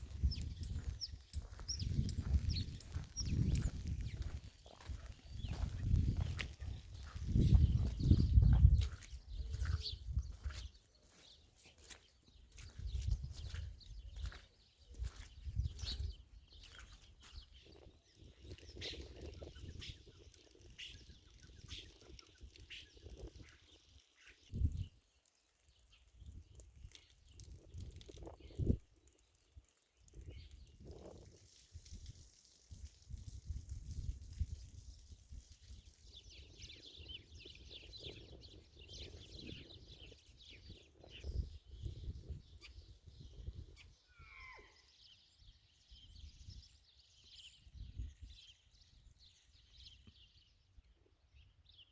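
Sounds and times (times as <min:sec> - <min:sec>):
birds chirping: 0:00.0 - 0:31.2, 0:35.9 - 0:51.9.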